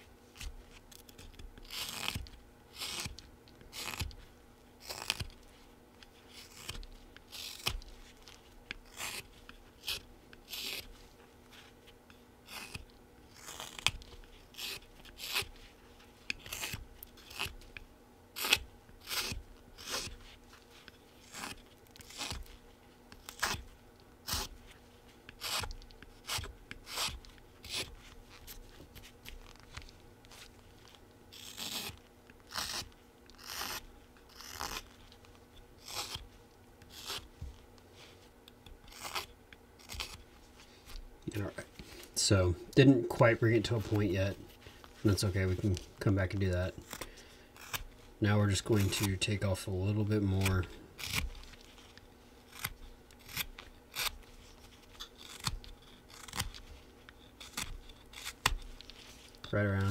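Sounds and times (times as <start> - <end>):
knife shaving wood: 0.3 - 17.8, 18.4 - 42.2, 43.5 - 59.9.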